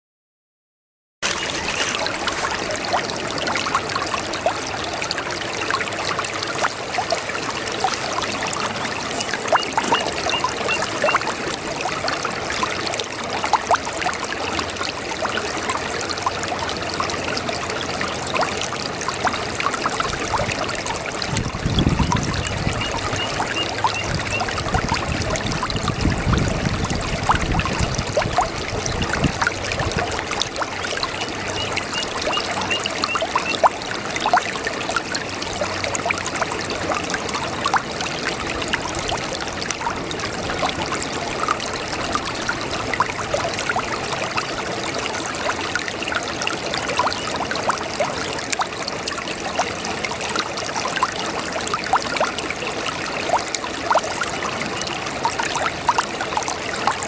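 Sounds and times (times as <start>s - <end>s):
brook water trickling and gurgling: 1.2s - 57.0s.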